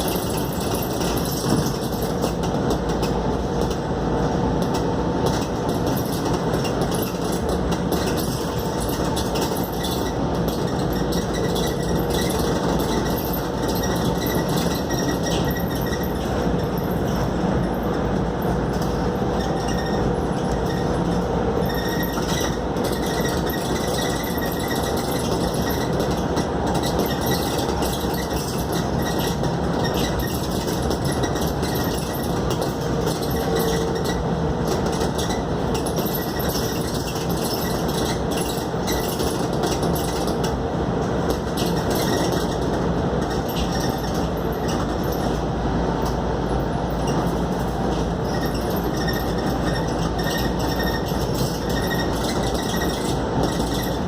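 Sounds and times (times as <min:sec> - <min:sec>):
bus engine and road drone: 0:00.0 - 0:54.0.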